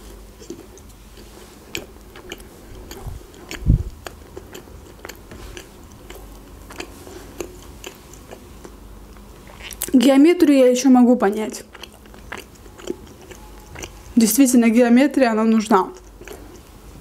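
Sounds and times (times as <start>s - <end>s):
biting and chewing croissant: 0.0s - 10.0s, 11.5s - 14.2s, 15.8s - 17.0s.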